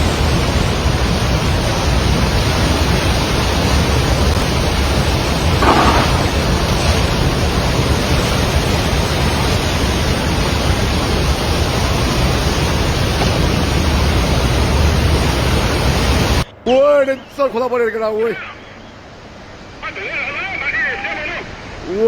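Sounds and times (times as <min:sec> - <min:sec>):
rushing floodwater: 0:00.0 - 0:16.4, 0:17.8 - 0:22.0.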